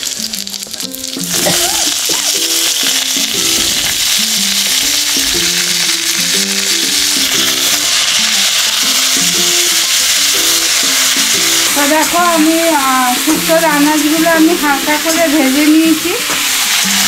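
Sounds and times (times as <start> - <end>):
background music melody: 0.0 - 17.0
vegetables sizzling in hot oil: 0.0 - 17.0.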